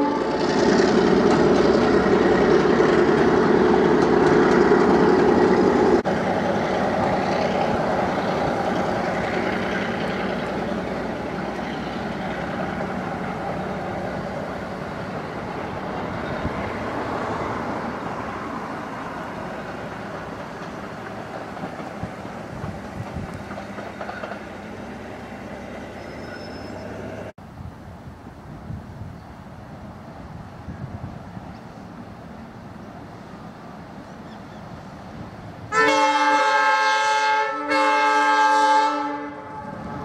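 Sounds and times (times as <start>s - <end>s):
diesel train rolling along track: 0.0s - 40.0s.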